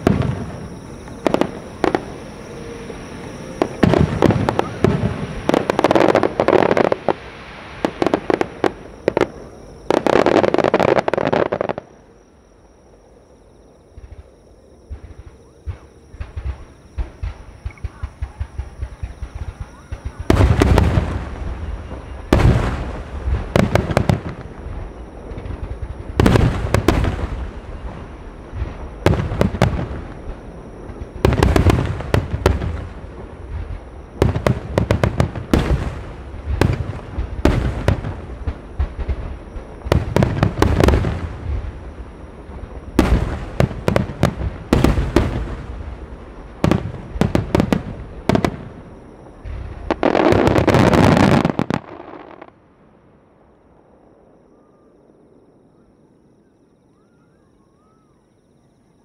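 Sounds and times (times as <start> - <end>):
fireworks booming: 0.0 - 11.9, 14.9 - 52.6.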